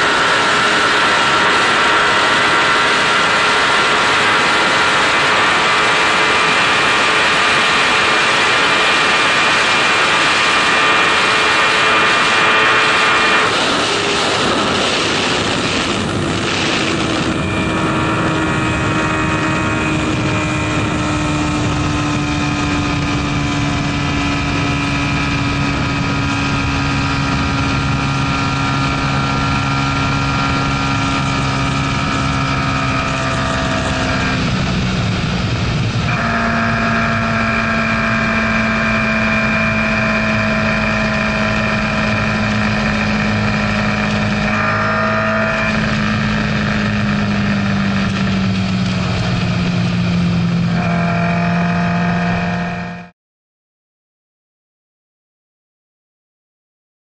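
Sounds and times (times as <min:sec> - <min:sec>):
wind rush: 0:00.0 - 0:52.9
motorcycle engine: 0:00.0 - 0:53.1.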